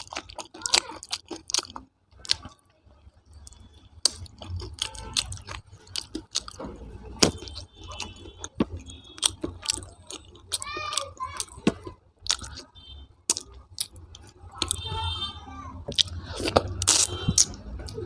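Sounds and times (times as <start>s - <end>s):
person chewing food: 0.0s - 14.9s, 15.8s - 18.0s.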